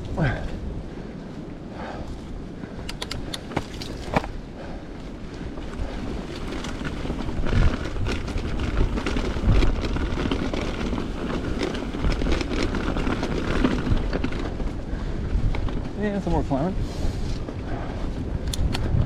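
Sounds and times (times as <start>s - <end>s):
bike rattling and clicking: 0.0s - 19.0s
bike tyre rumble: 0.0s - 19.0s
wind buffeting microphone: 0.0s - 19.0s.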